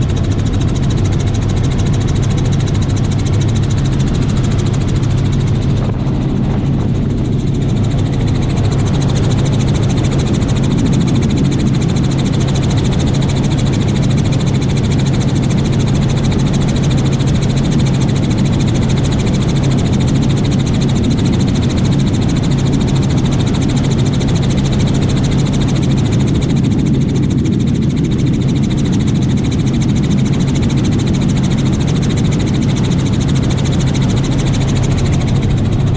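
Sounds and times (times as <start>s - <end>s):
helicopter rotor and engine drone: 0.0s - 35.9s.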